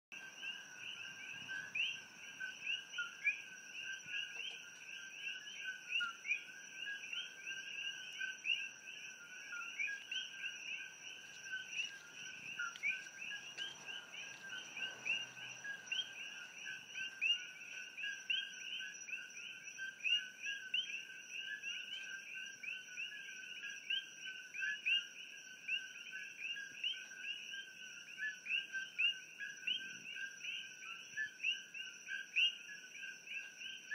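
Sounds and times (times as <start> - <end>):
chorus of frogs calling: 0.2 - 33.9.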